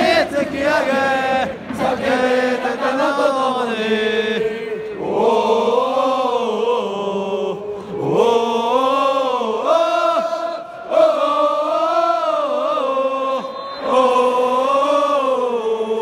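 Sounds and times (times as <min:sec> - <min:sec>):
football supporters chanting: 0:00.0 - 0:16.0.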